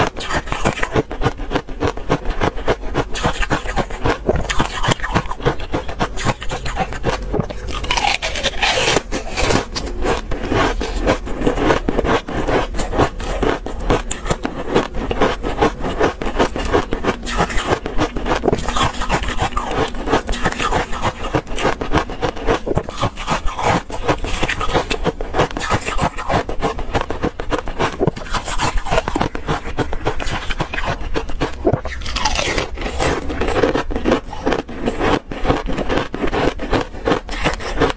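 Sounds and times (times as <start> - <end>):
ice being chewed: 0.0 - 37.9.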